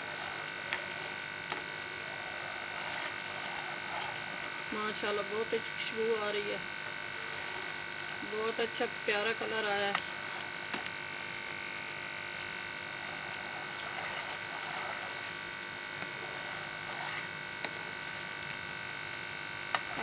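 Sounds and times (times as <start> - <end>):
food bubbling in a pan: 0.0 - 20.0
steady hiss: 0.0 - 20.0.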